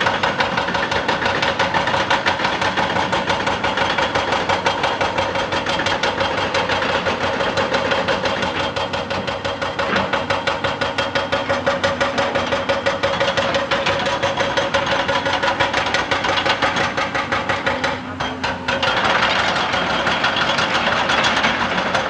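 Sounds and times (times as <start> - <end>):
hydraulic rock breaker hammering rock: 0.0 - 22.0.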